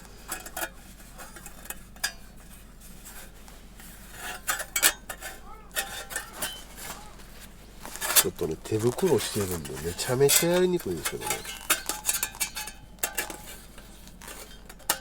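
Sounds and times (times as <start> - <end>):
metal plates clinking and scraping: 0.0 - 15.0.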